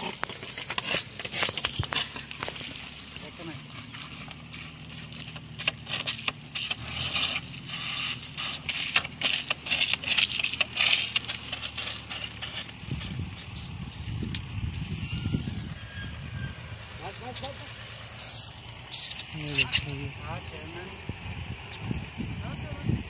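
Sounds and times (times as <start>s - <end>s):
water pipe scraping and crunching: 0.0s - 15.5s, 17.2s - 20.9s.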